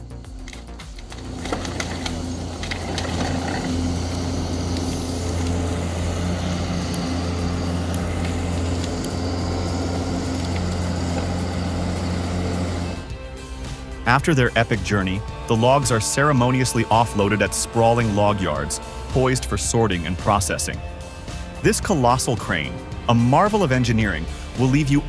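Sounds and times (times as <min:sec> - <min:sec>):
diesel engine running: 0:00.0 - 0:24.8.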